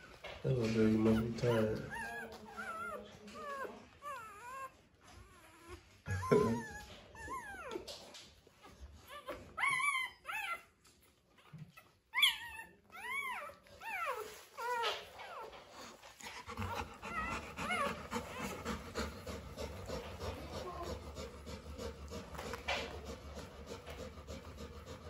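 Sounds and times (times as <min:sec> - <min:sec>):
puppies whimpering and squealing: 0:00.0 - 0:25.0.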